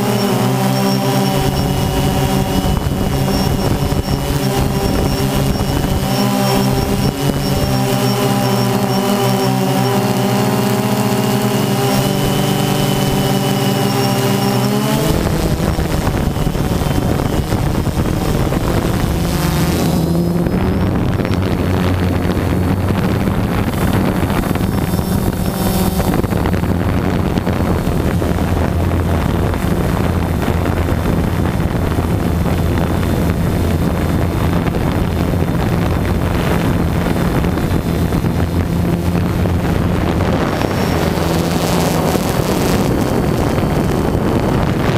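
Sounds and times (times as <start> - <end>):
drone motors humming: 0.0 - 44.9
wind on microphone: 0.0 - 44.9.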